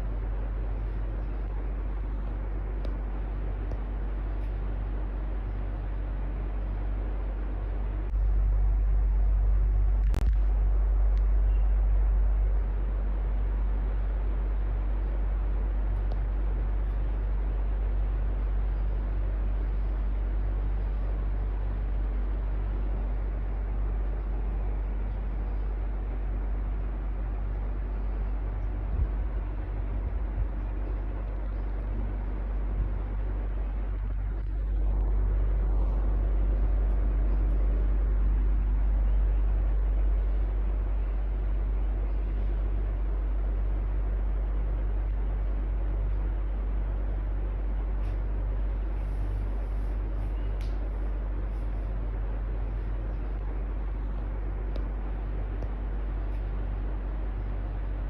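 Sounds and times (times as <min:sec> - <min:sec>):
electric fan whooshing: 0:00.0 - 0:58.0.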